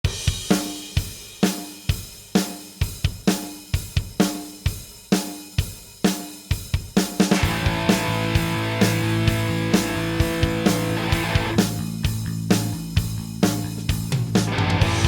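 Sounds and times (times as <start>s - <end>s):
drum kit playing rock beat: 0.0s - 15.0s.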